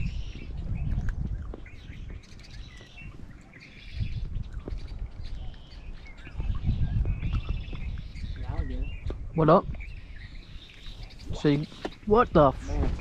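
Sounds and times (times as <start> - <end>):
birds chirping: 0.0 - 13.0
wind buffeting microphone: 0.0 - 13.0.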